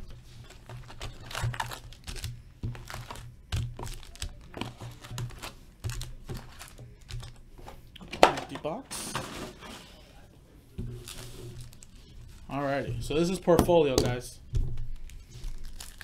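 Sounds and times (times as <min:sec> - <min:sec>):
foil packs crinkling and knocking: 0:00.0 - 0:09.7, 0:10.8 - 0:16.0.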